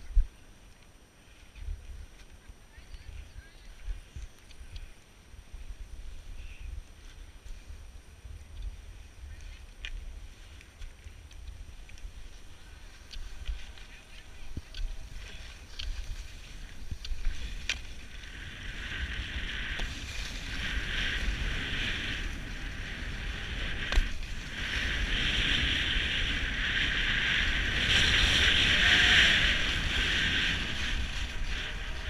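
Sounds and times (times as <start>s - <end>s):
wind buffeting microphone: 2.8s - 32.0s
skis hissing over snow: 5.3s - 32.0s.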